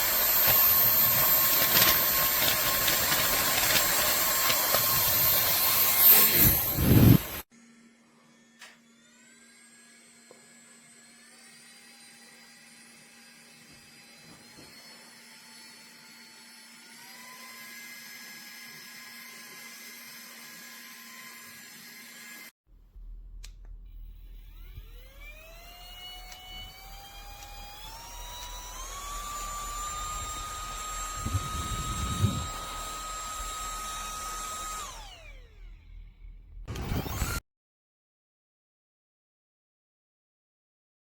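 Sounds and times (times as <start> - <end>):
handheld fan motor whining: 0.0 - 22.5, 23.4 - 37.4.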